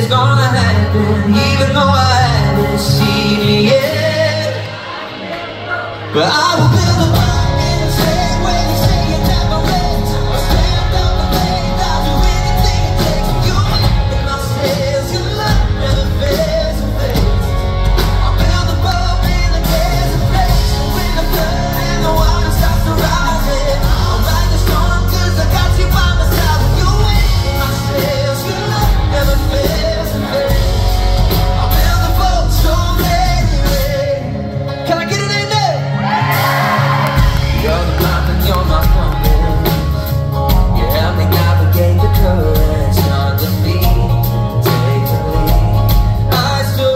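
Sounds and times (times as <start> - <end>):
drums: 0.0 - 46.9
heavy bass: 0.0 - 46.9
man singing: 0.0 - 46.9
pop-rock band playing: 0.0 - 46.9.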